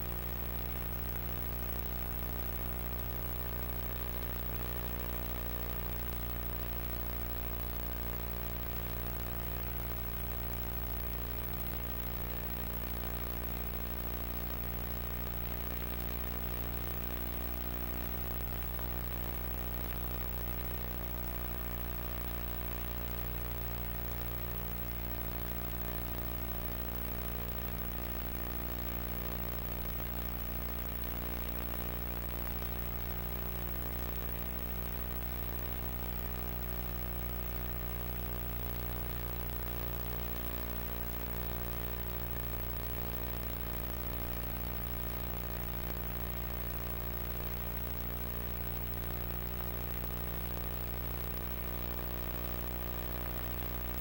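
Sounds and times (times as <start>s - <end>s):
mains hum: 0.0s - 54.0s
tape hiss: 0.0s - 54.0s.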